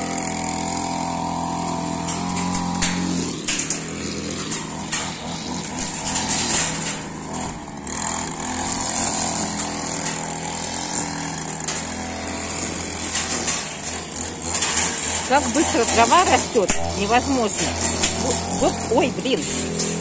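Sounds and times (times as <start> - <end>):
string trimmer cutting grass: 0.0 - 20.0.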